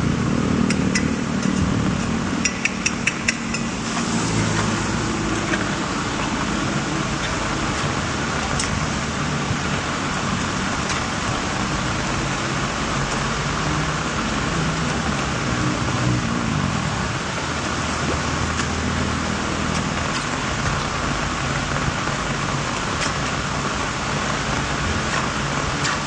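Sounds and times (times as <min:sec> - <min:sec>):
rainwater rushing into drain: 0:00.0 - 0:26.0.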